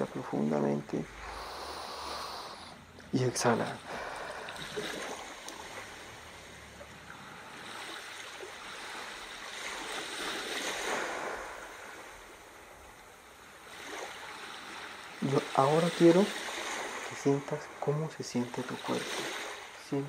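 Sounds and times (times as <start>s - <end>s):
sea waves: 0.0s - 20.0s.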